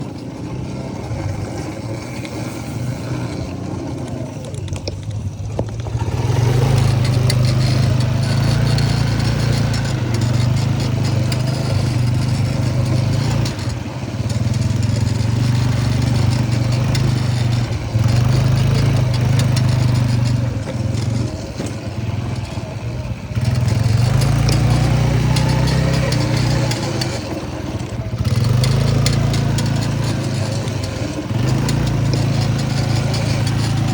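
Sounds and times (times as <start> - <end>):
vehicle engine humming: 0.0 - 33.9.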